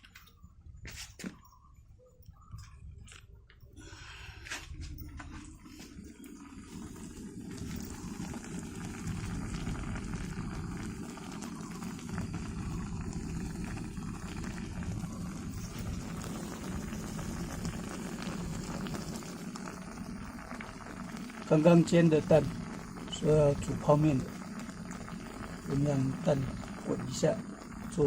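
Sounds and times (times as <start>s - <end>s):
pot of water boiling: 3.8s - 28.0s.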